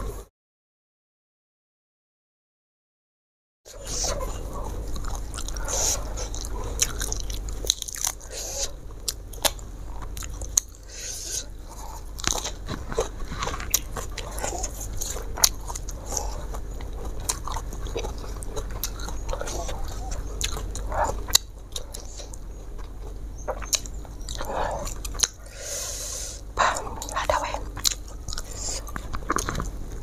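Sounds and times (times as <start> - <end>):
wet crunchy chewing: 3.7 - 30.0.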